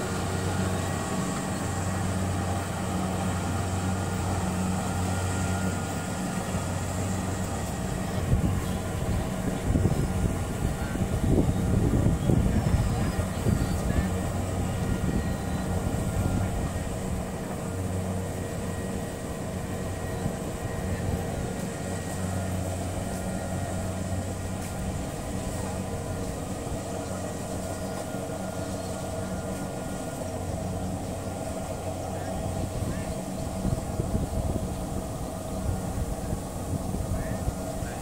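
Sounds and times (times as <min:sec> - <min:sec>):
combine harvester engine running: 0:00.0 - 0:38.0.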